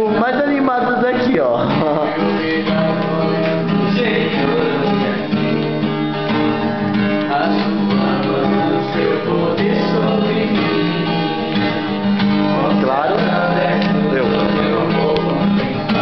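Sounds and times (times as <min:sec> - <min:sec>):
acoustic guitar song: 0:00.0 - 0:16.0.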